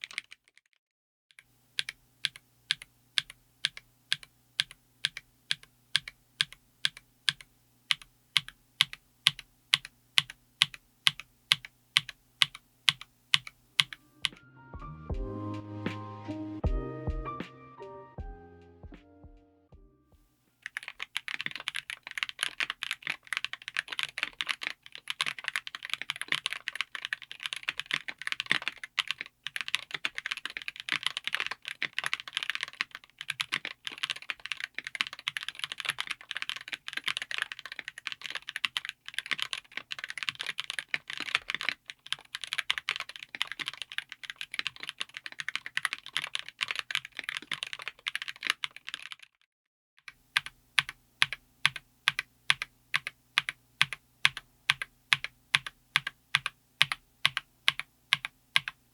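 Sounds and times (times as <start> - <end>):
fast keyboard typing: 0.0 - 0.7, 1.4 - 14.4, 20.6 - 49.4, 50.1 - 58.9.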